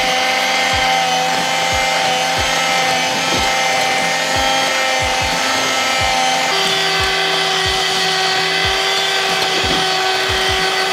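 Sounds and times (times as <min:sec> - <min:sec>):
electric hand mixer whining: 0:00.0 - 0:10.9.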